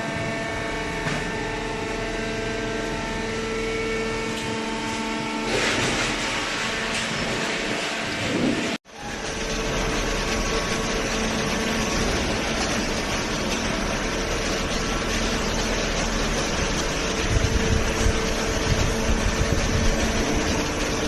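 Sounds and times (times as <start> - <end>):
baler machine humming: 0.0 - 21.0.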